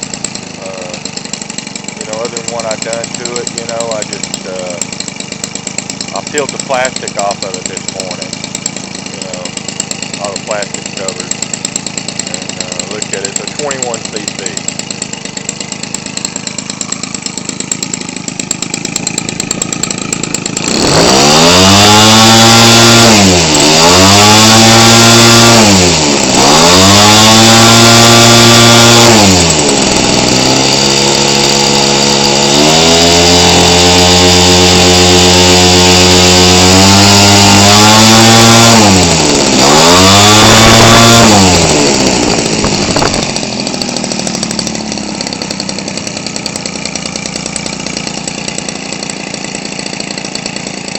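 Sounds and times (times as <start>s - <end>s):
small two-stroke engine revving: 0.0s - 50.9s.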